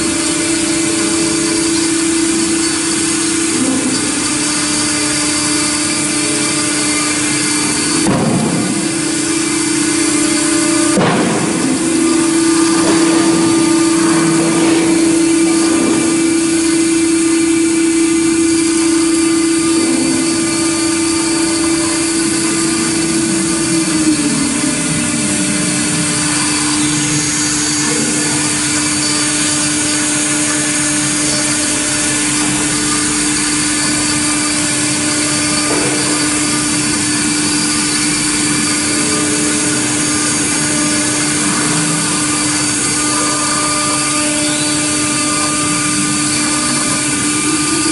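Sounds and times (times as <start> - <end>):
cutter milling metal hiss: 0.0 - 47.9
router spindle whine: 0.0 - 47.9.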